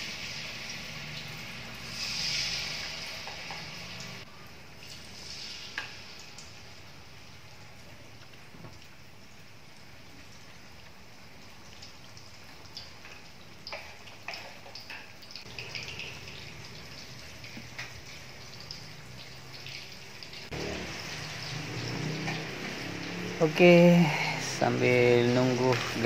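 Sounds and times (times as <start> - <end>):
deep-frying sizzle with pops: 0.0 - 26.0.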